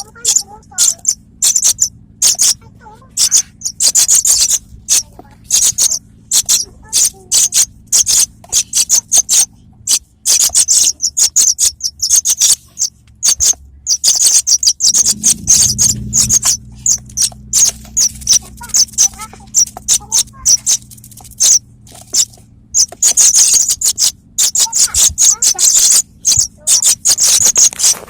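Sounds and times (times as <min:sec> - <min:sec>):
young pipits chirping: 0:00.0 - 0:28.0.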